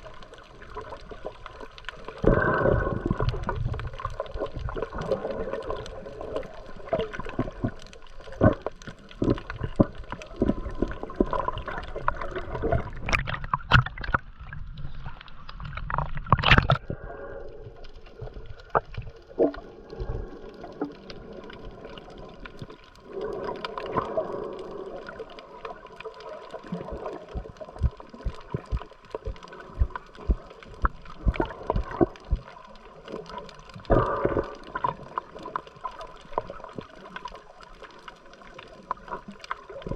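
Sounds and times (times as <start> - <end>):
clicks and knocks underwater: 0.0 - 39.9
water gurgling and sloshing: 0.0 - 39.9.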